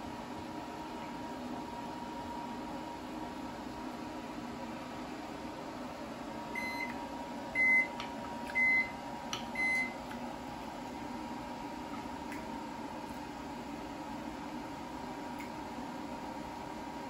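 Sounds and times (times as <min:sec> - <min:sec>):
microwave oven beeping: 0:00.0 - 0:17.0.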